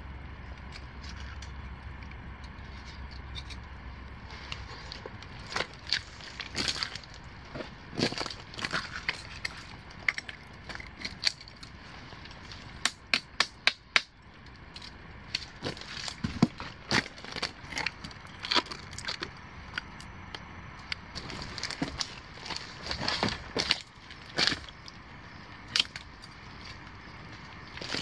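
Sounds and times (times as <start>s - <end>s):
twigs cracking and snapping: 0.5s - 28.0s.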